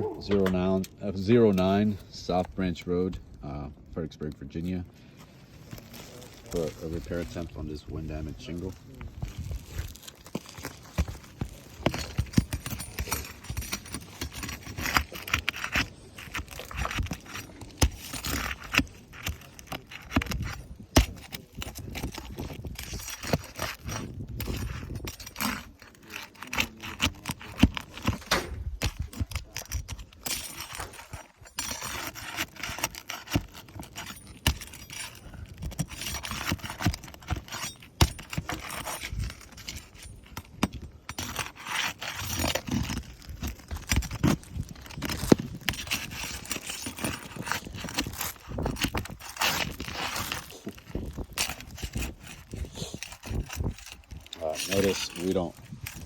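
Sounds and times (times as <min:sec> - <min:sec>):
scraping and rattling roof shingles: 0:05.2 - 0:56.0.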